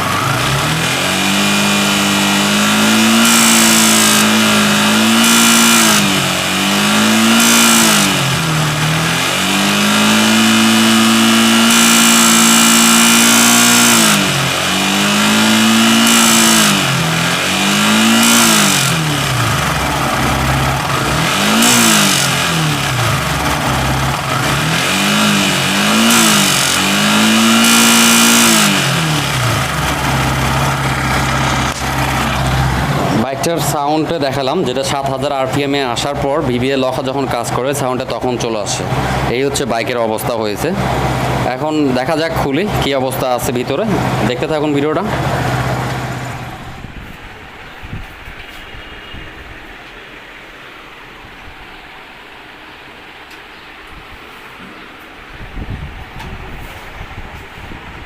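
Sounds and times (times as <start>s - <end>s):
motorcycle engine revving: 0.0s - 47.7s
mechanical engine noise: 0.0s - 58.0s.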